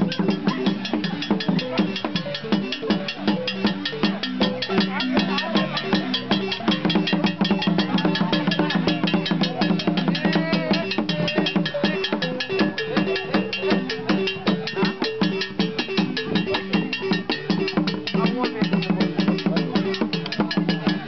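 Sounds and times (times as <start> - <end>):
small drum beaten with stick: 0.0 - 21.0
wooden xylophone fast notes: 0.0 - 21.0.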